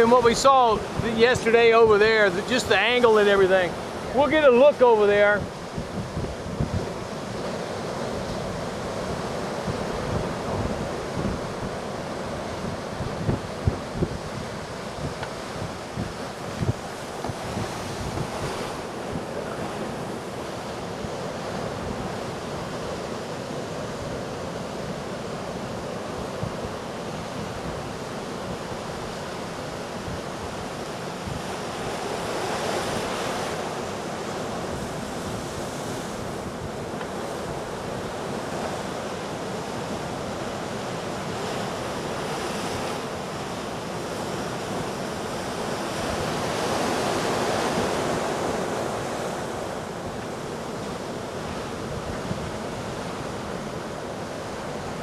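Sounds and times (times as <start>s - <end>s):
heavy surf crashing: 0.0s - 55.0s
wind rumbling on microphone: 0.0s - 55.0s.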